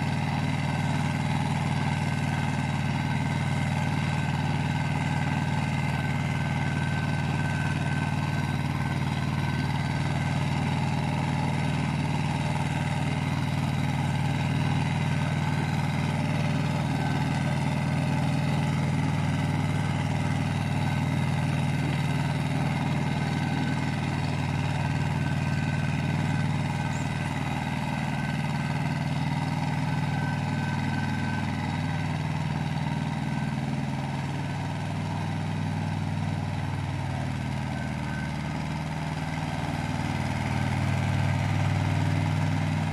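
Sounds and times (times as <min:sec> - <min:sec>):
rotary tiller in soil: 0:00.0 - 0:42.9
tractor engine under load: 0:00.0 - 0:42.9.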